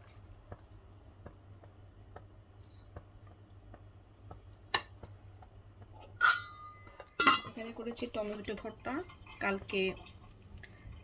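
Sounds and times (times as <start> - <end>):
curry simmering with little pops: 0.0 - 11.0
low steady hum: 0.0 - 11.0.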